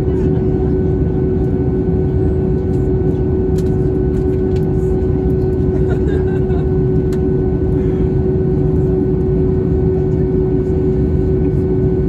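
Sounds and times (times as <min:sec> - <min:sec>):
aircraft cabin airflow and engine: 0:00.0 - 0:12.0
constant droning tone: 0:00.0 - 0:12.0.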